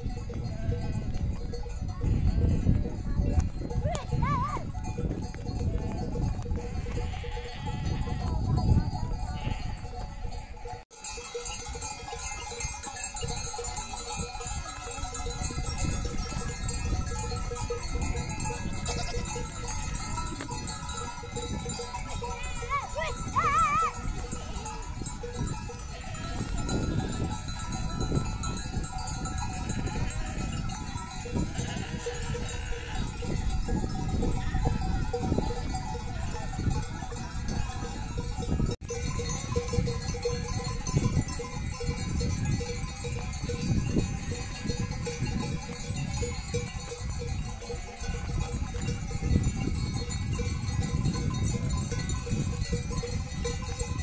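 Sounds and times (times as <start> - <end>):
sheep bells clinking: 0.0 - 54.0.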